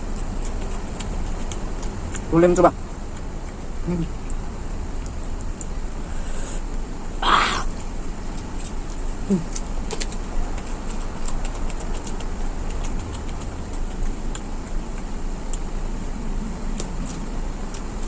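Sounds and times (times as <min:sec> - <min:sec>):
low background rumble: 0:00.0 - 0:18.0
person chewing and crunching food: 0:00.0 - 0:18.0.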